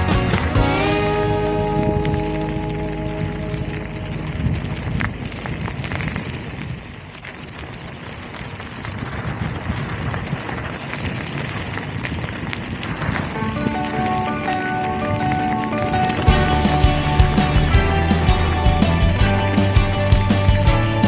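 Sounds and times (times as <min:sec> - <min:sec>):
wind buffeting microphone: 0:00.0 - 0:18.7.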